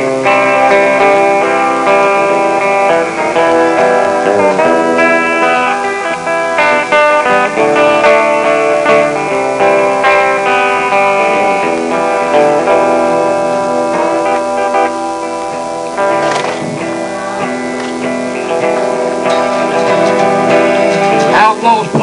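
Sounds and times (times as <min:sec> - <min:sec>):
electric guitar lead lines: 0:00.0 - 0:22.0
steel guitar sliding notes: 0:00.0 - 0:22.0
strummed acoustic guitar: 0:00.0 - 0:22.0.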